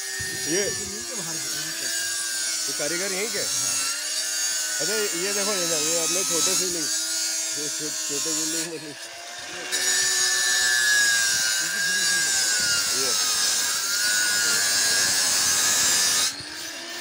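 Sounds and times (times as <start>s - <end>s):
grinder grinding stone: 0.0s - 17.0s
grinder motor whine: 0.0s - 17.0s.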